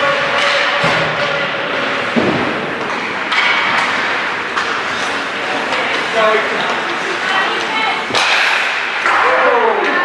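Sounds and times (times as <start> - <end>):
busy indoor hall noise: 0.0 - 10.0.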